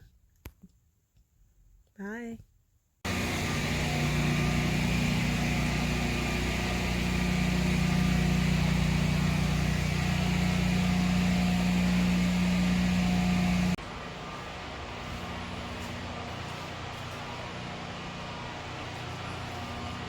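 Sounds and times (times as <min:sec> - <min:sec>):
road noise: 0:03.1 - 0:20.0.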